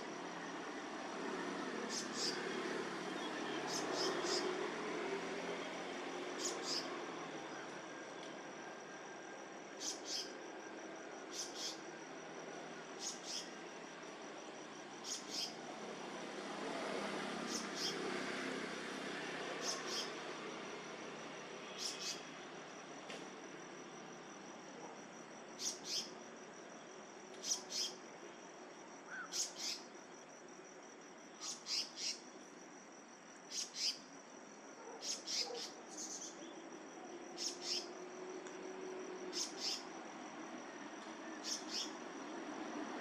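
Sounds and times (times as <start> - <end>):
faint high whine: 0.0 - 43.0
low outdoor hiss: 0.0 - 43.0.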